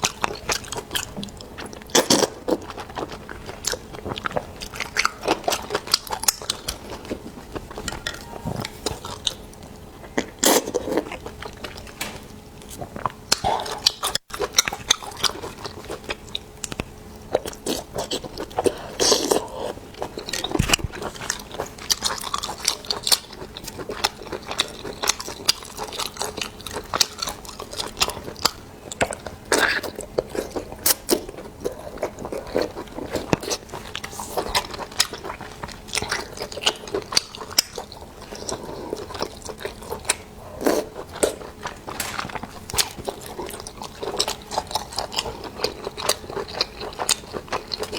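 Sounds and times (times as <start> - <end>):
chewing and biting food: 0.0 - 12.0, 12.6 - 47.9.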